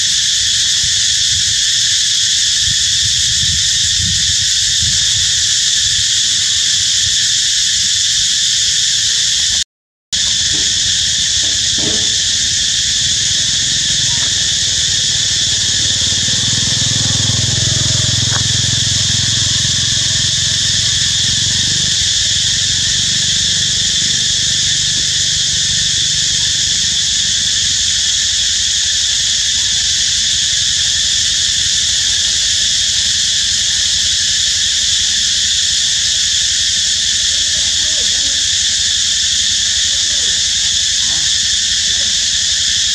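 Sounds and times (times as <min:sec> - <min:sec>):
insect chorus buzzing: 0:00.0 - 0:09.6, 0:10.2 - 0:42.9.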